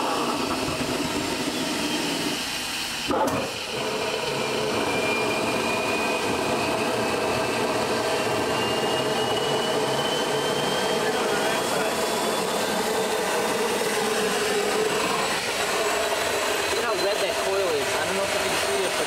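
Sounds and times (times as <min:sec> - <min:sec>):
jet engine rushing and combusting: 0:00.0 - 0:19.0
turbine whine rising: 0:00.0 - 0:19.0.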